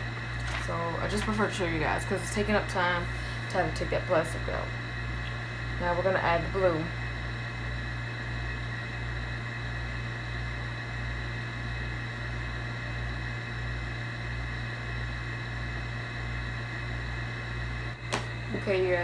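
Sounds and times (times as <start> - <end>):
throbbing mechanical hum: 0.0 - 19.0.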